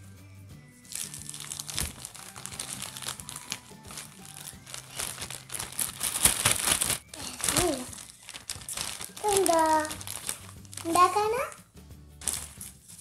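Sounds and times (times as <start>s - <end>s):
background music: 0.0s - 13.0s
packaging crinkling and rustling: 0.9s - 11.5s, 12.2s - 13.0s.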